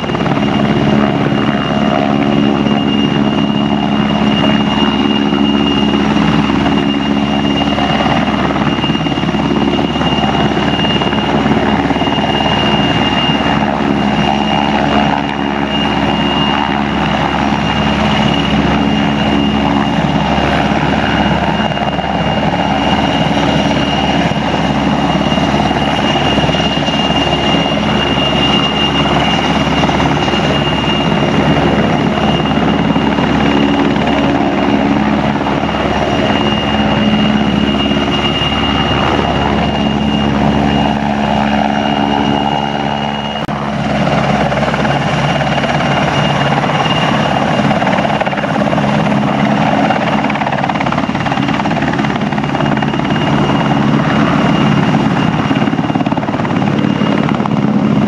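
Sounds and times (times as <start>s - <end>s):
helicopter rotor: 0.0s - 58.0s
high turbine whine: 0.0s - 58.0s.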